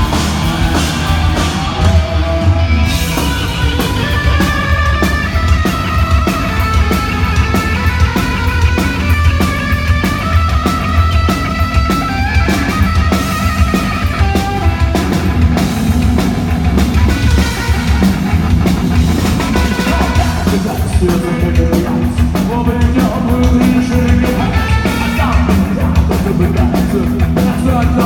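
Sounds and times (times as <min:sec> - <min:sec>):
bass guitar: 0:00.0 - 0:28.0
distorted electric guitar: 0:00.0 - 0:28.0
pounding drum kit: 0:00.0 - 0:28.0.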